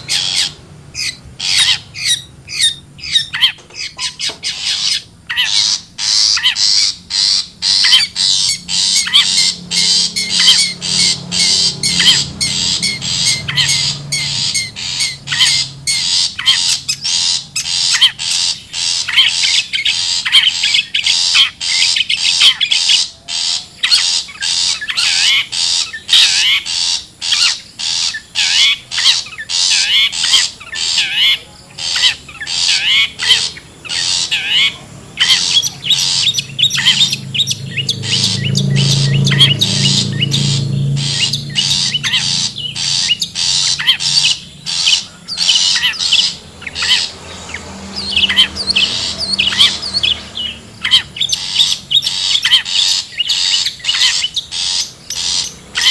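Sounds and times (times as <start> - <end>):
shrike scolding calls: 0.0 - 55.9.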